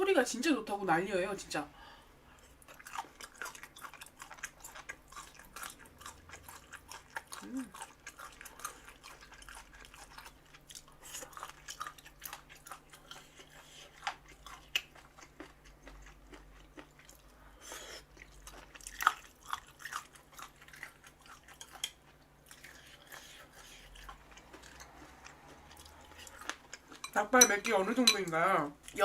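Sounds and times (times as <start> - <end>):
close chewing and crunching: 2.3 - 29.0.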